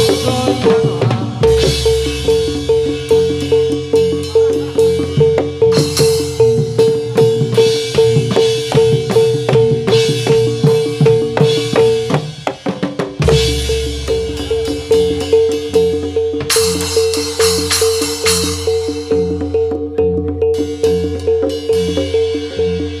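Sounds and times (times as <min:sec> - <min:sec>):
fast drumming music over speakers: 0:00.0 - 0:23.0.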